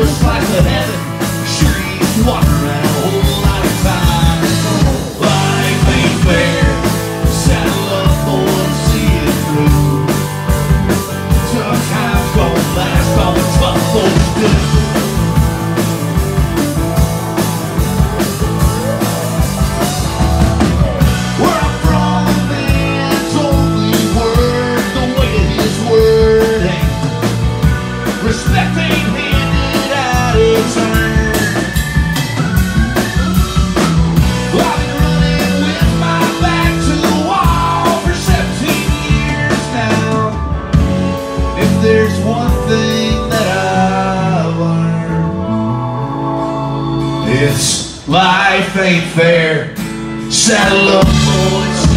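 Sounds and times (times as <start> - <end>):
sliding lead melody: 0.0 - 48.6, 49.2 - 51.9
live rock band playing: 0.0 - 51.9.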